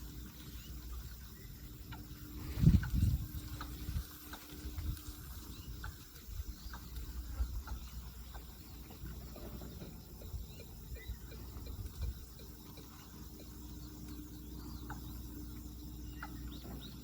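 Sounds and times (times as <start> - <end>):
distant bird calling: 0.0 - 17.0
low microphone rumble: 0.0 - 17.0.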